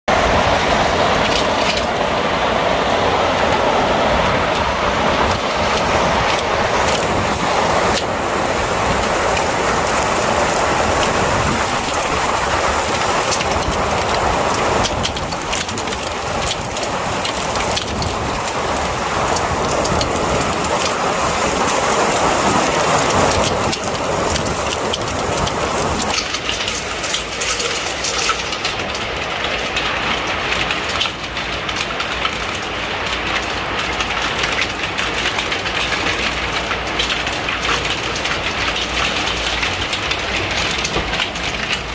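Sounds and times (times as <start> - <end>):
hail on window glass: 0.1 - 41.9.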